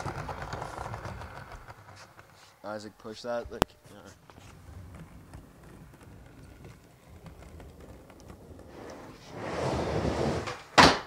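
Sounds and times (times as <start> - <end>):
skateboard clacking: 0.0 - 9.3, 10.4 - 11.0
skateboard wheels rolling on ramp: 0.0 - 11.0.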